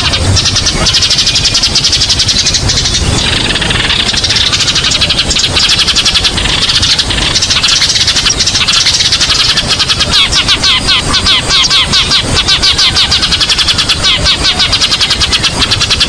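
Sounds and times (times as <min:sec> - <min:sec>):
low background rumble: 0:00.0 - 0:16.0
sparrows chirping: 0:00.0 - 0:16.0.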